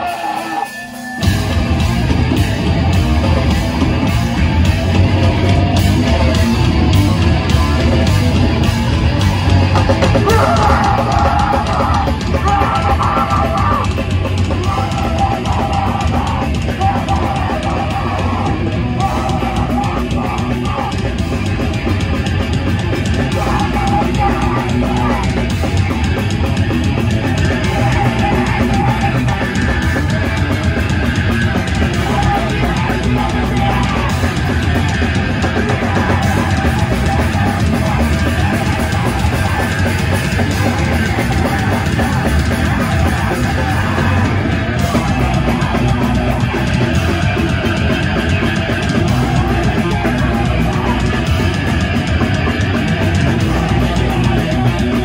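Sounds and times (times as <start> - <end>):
heavy rock band playing: 0.0 - 55.0.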